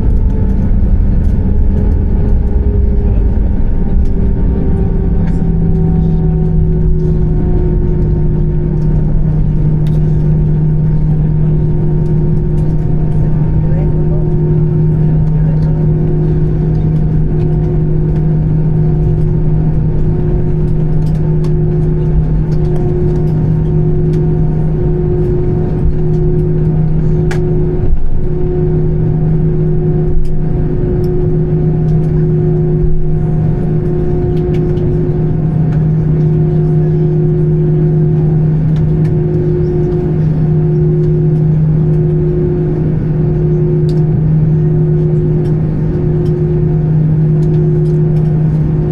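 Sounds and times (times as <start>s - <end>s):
aircraft engines humming: 0.0s - 48.9s
low cabin rumble: 0.0s - 48.9s.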